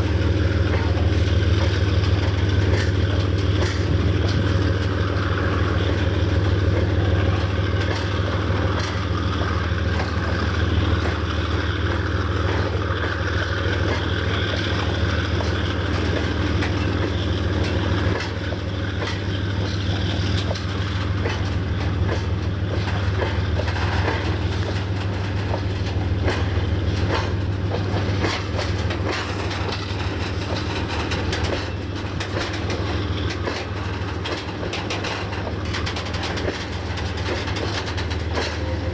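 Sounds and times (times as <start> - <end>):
low diesel drone: 0.0 - 38.9
train wheels clicking over rail joints: 0.0 - 38.9.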